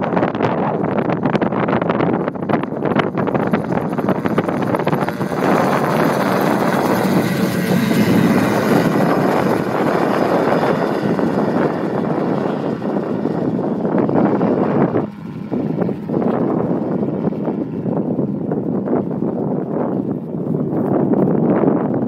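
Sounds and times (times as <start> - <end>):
aircraft engine and propeller: 0.0 - 22.0.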